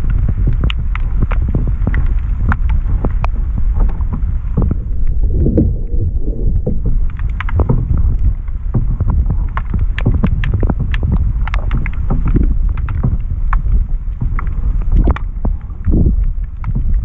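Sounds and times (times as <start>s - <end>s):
sharp clicks and knocks: 0.0s - 17.0s
water gurgling: 0.0s - 17.0s
water rushing underwater: 0.0s - 17.0s.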